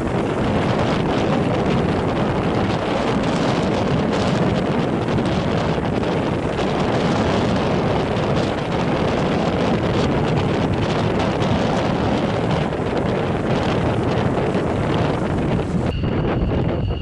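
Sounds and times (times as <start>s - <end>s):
choppy sea and surf: 0.0s - 17.0s
wind buffeting microphone: 0.0s - 17.0s.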